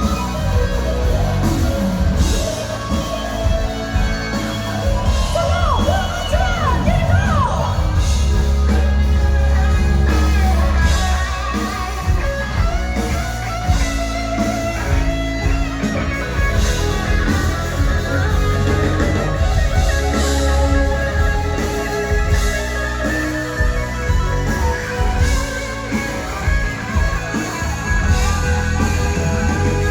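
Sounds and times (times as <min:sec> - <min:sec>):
guitar rock music: 0:00.0 - 0:29.9.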